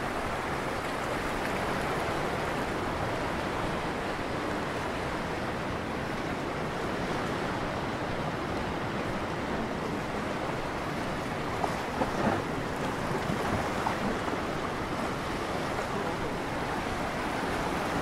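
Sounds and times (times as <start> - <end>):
waves breaking on rocky shore: 0.0 - 18.0.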